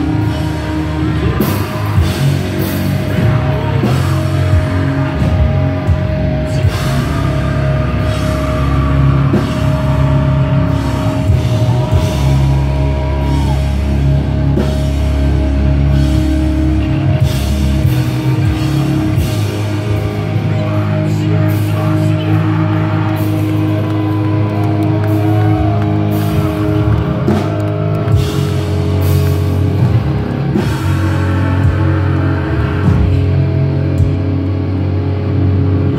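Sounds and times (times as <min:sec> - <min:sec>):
metal band playing loud: 0:00.0 - 0:35.9.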